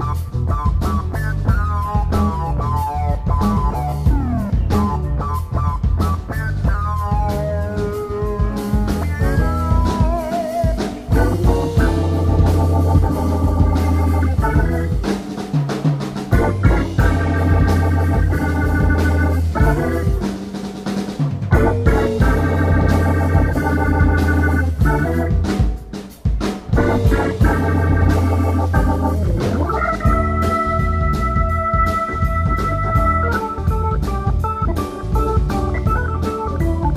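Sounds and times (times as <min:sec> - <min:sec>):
electric bass: 0:00.0 - 0:36.9
electric guitar: 0:00.0 - 0:36.9
organ chords: 0:00.0 - 0:36.9.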